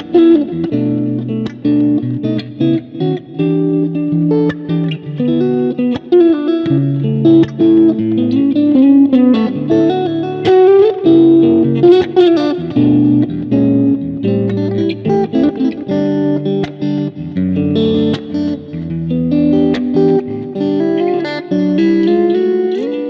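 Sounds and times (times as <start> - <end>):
electric guitar rock riff: 0.0 - 23.0.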